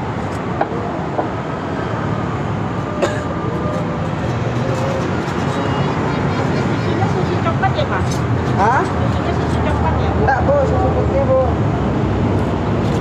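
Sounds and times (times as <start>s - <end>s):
steady rumbling background noise: 0.0s - 13.0s.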